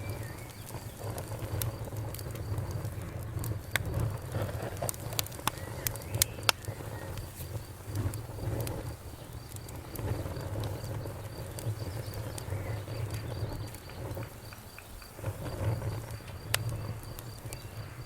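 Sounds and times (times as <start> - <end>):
cricket chirping: 0.0 - 18.0
low rumble of flames: 0.0 - 18.0
wood fire crackling and popping: 0.0 - 18.0.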